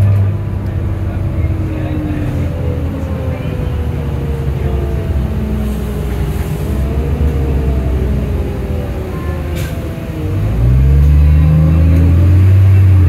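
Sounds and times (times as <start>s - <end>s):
bus engine drone: 0.0s - 13.0s
transmission whine: 0.0s - 13.0s.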